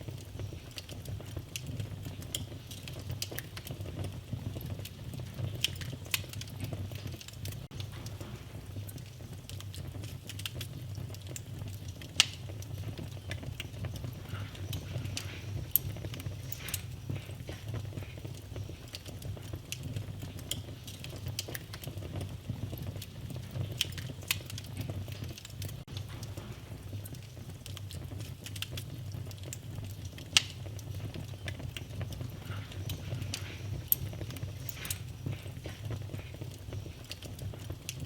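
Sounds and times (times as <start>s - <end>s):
fire crackling and popping: 0.0s - 38.0s
fire rumbling: 0.0s - 38.0s.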